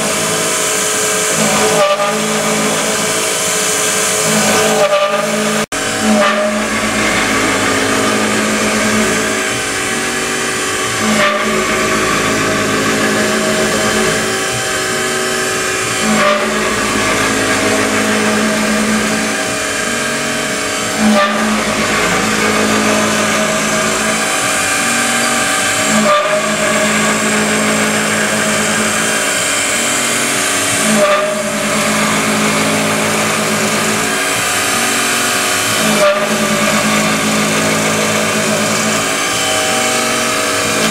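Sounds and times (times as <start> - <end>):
mill spindle whining: 0.0 - 40.9.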